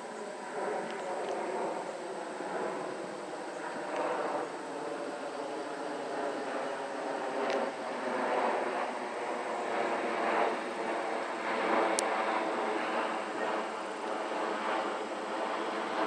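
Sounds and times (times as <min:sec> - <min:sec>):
jet airliner engine noise: 0:00.0 - 0:16.0.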